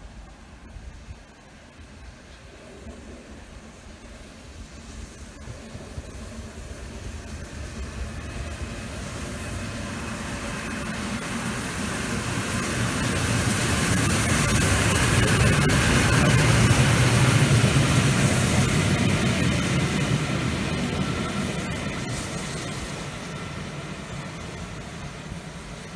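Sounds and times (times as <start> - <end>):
steam locomotive passing: 0.0 - 25.9.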